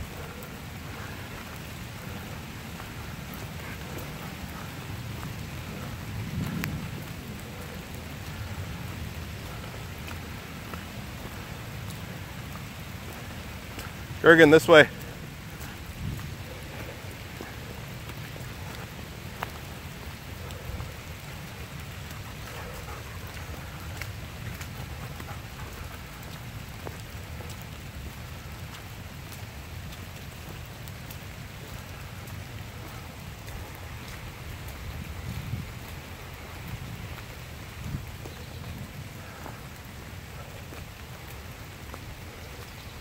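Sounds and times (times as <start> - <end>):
rain falling on leaves: 0.0 - 43.0.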